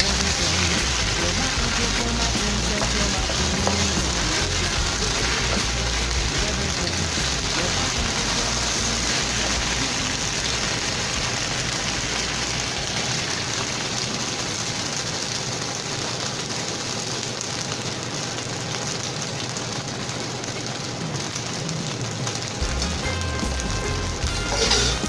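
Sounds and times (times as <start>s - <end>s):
chicken sizzling in a pan: 0.0s - 25.0s.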